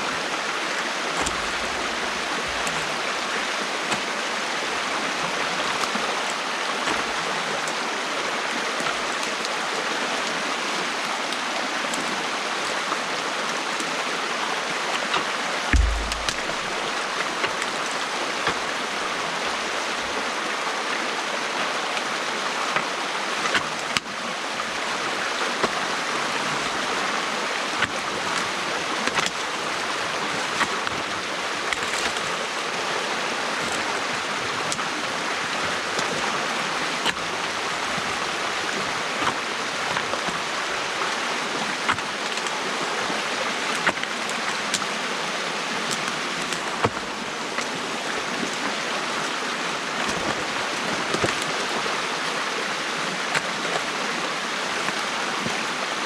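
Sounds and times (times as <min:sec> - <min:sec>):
water rushing through dam: 0:00.0 - 0:56.0.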